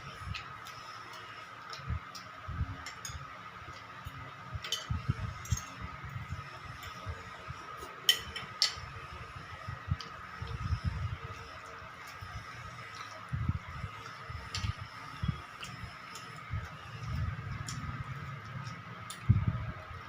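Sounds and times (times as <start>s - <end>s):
faint high tone hum: 0.0s - 20.0s.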